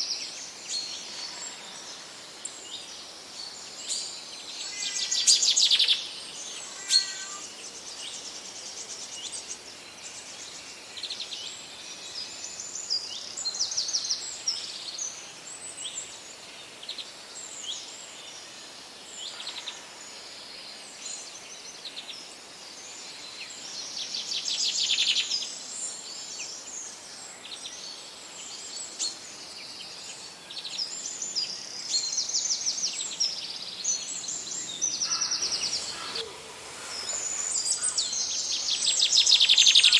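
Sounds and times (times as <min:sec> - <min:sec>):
faint steady hiss: 0:00.0 - 0:39.9
songbirds singing and calling: 0:00.0 - 0:39.9.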